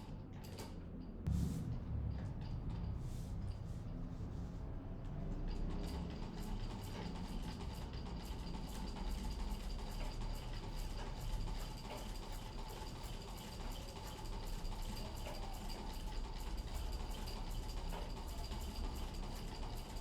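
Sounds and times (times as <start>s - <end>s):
flywheel and belt rumble: 0.0s - 20.0s.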